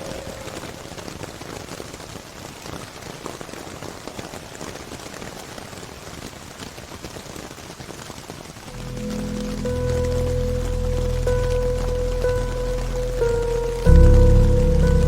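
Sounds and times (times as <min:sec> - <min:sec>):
rain patter on a surface: 0:00.0 - 0:15.0.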